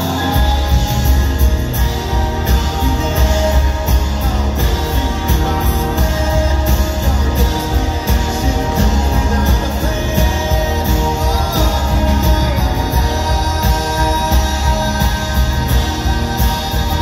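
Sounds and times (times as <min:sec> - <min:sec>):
bass guitar: 0:00.0 - 0:17.0
drums: 0:00.0 - 0:17.0
person singing lead vocal: 0:00.0 - 0:17.0
strummed acoustic guitar: 0:00.0 - 0:17.0.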